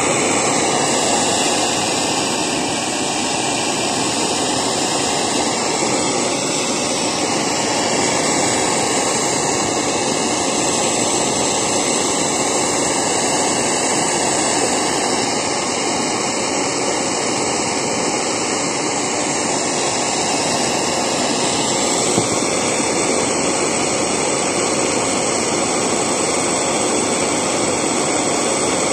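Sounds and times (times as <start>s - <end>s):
blow torch flame hissing: 0.0s - 28.9s.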